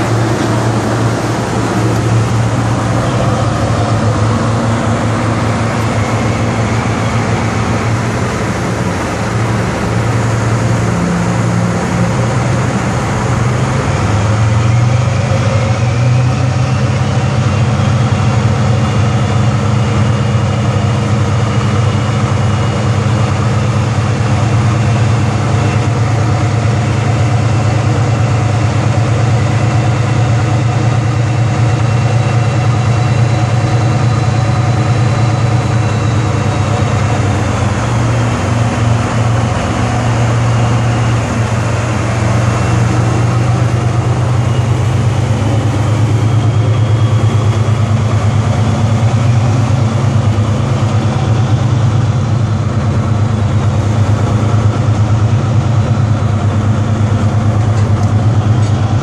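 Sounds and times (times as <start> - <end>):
diesel engines low drone: 0.0 - 59.0
high whine: 0.0 - 59.0.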